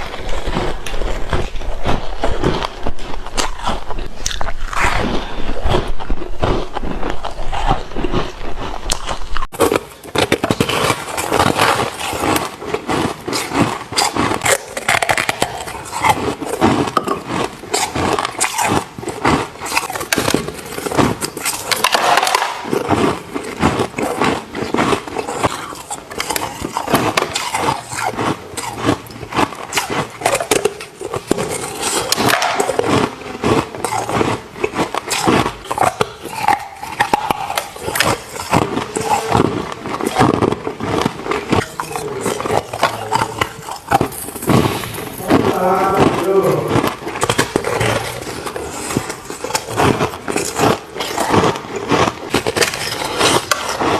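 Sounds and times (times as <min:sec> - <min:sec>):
chewing ice crunches: 0:00.0 - 0:53.9.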